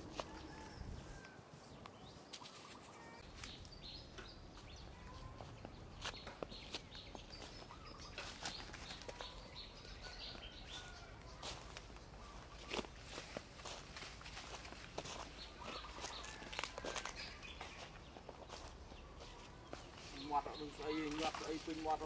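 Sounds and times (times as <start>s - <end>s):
footsteps crunching on straw and leaves: 0.0s - 3.8s, 4.5s - 22.0s.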